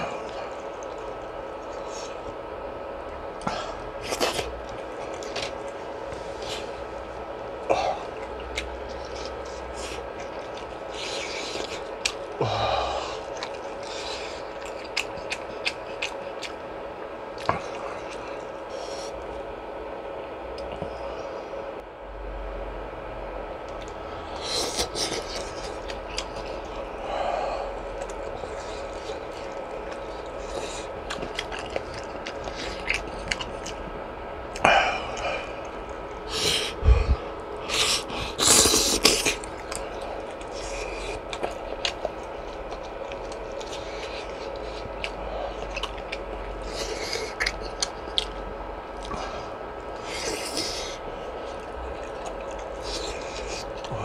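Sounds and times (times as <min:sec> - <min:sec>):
person chewing: 0:00.0 - 0:02.5, 0:03.2 - 0:19.4, 0:23.7 - 0:54.0
steady background hum: 0:00.0 - 0:54.0.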